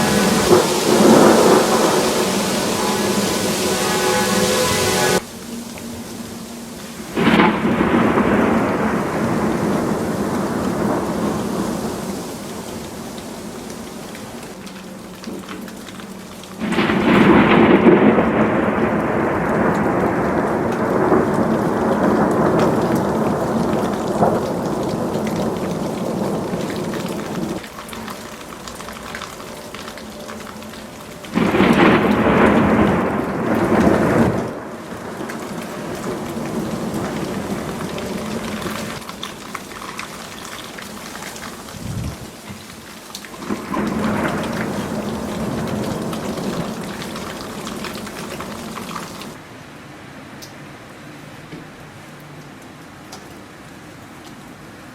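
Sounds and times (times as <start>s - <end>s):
hiss of falling snow: 0.0s - 49.4s
thunder rumbling: 0.0s - 49.4s.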